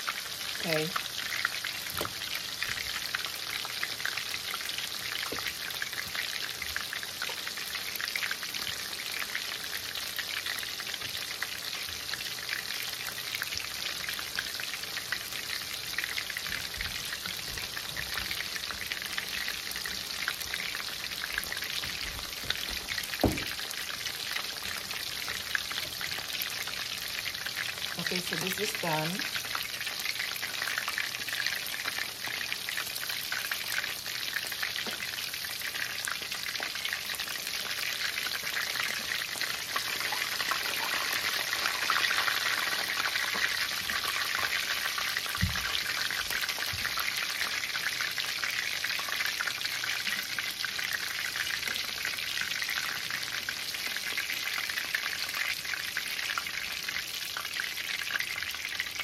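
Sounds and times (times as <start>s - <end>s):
chicken frying in bubbling oil: 0.0s - 59.0s.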